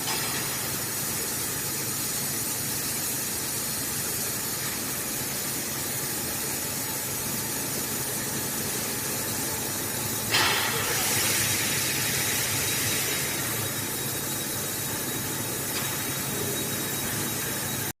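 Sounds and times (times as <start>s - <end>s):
laser cutting machine hiss: 0.0s - 17.9s.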